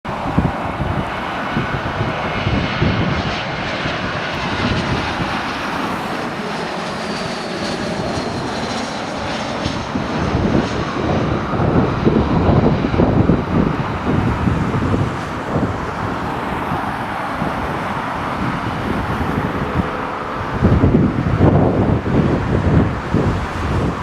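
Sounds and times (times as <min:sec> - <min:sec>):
jet engine noise with deep rumble: 0:00.1 - 0:24.0.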